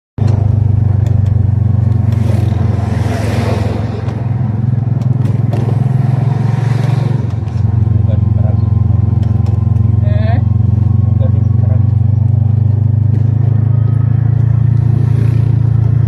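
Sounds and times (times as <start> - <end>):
motorcycle engine droning: 0.2 - 16.0
truck passing: 0.2 - 16.0
wind and road rush: 0.2 - 16.0.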